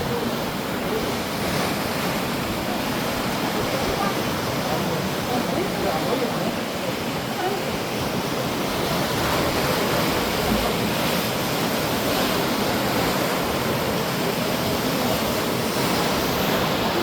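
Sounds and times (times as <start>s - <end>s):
sea surf rushing on shore: 0.0s - 17.0s.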